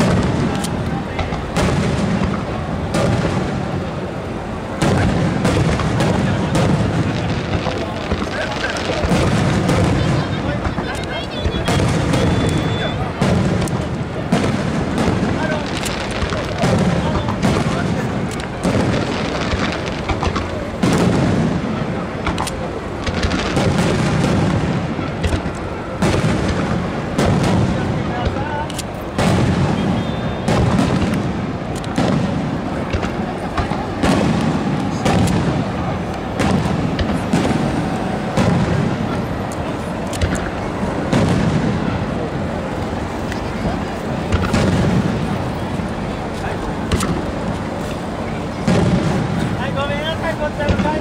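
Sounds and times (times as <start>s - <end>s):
firework shells booming: 0.0s - 51.0s.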